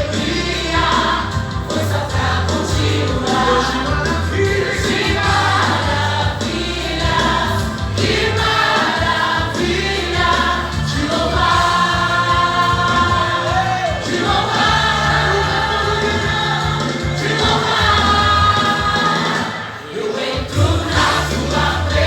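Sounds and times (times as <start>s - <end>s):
steady bass line: 0.0s - 19.6s, 20.5s - 22.0s
band accompaniment: 0.0s - 22.0s
choir singing gospel music: 0.0s - 22.0s.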